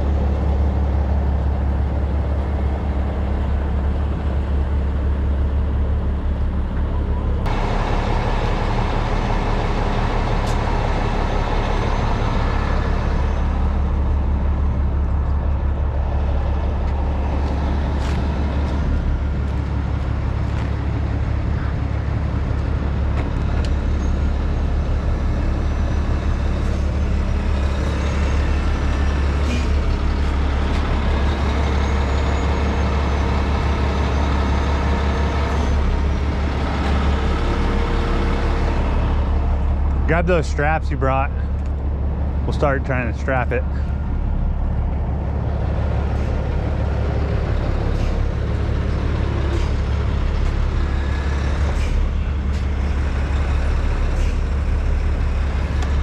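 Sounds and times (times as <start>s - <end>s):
diesel engine running steadily: 0.0s - 56.0s.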